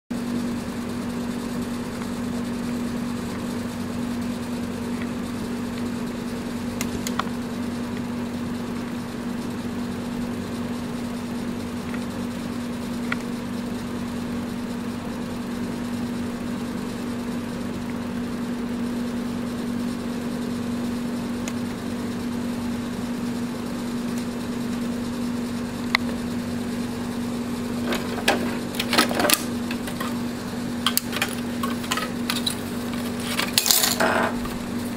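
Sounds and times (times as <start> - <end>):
low machine hum: 0.2 - 34.9.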